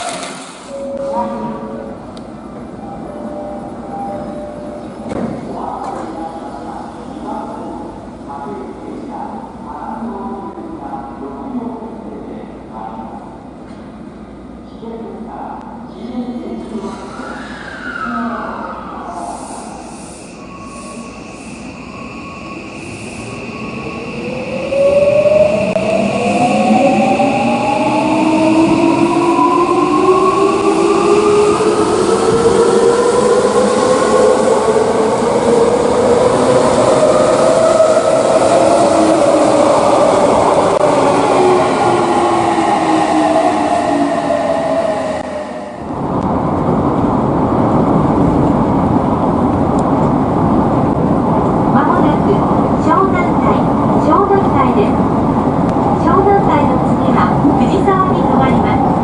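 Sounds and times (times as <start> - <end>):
train rumbling on rails: 0.0 - 14.8, 15.7 - 59.0.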